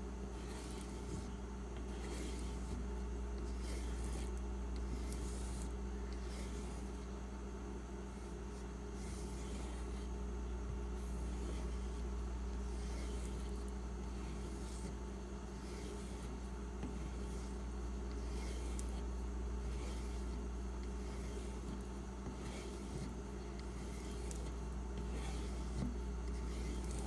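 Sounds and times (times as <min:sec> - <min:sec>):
steady low hum: 0:00.0 - 0:27.0
knife blade rubbing on leather: 0:00.3 - 0:02.8, 0:03.4 - 0:07.0, 0:11.0 - 0:27.0.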